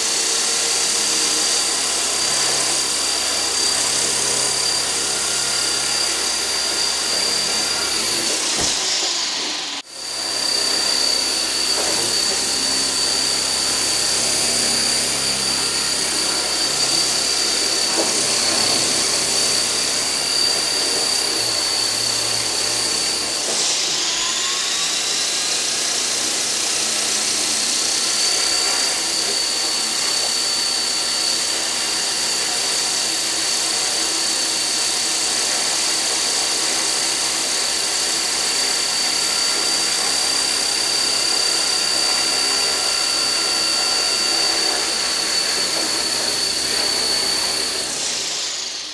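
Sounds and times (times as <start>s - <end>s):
high electric motor whine: 0.0s - 48.9s
rotor blades rushing: 0.0s - 48.9s.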